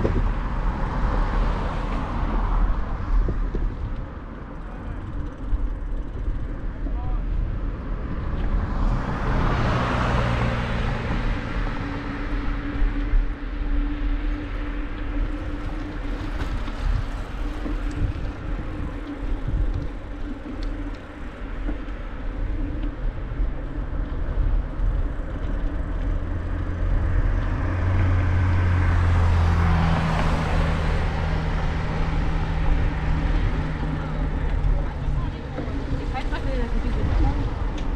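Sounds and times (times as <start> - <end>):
cars passing: 0.0 - 37.9
wind and road rumble: 0.0 - 37.9.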